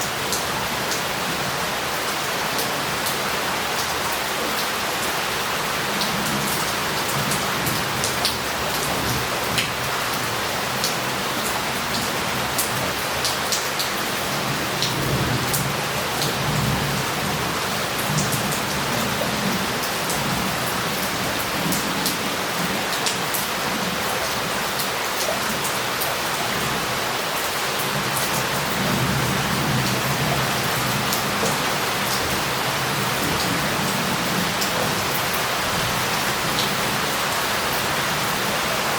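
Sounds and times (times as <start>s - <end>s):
heavy rain on street: 0.0s - 38.9s.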